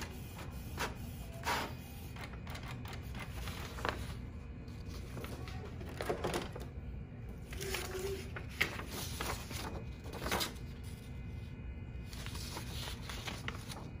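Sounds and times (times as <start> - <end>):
paper rustling: 2.2 - 6.8, 7.4 - 14.0.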